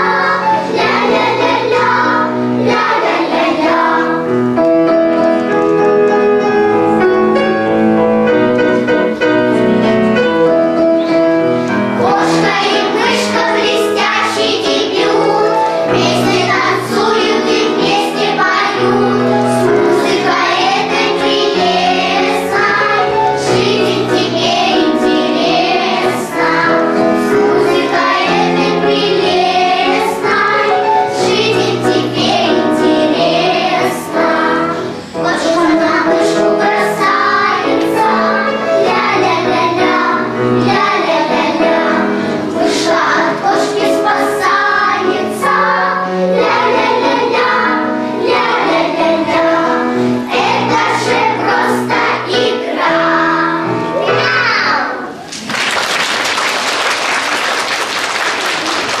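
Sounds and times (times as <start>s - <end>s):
children's choir singing: 0.0s - 55.3s.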